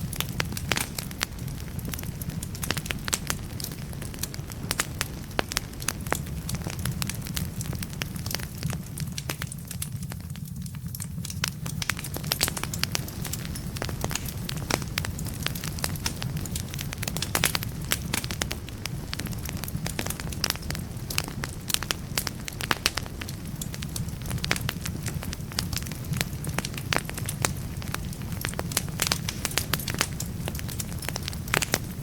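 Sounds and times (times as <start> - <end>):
burning logs crackling and popping: 0.0 - 32.0
fire rumbling: 0.0 - 32.0.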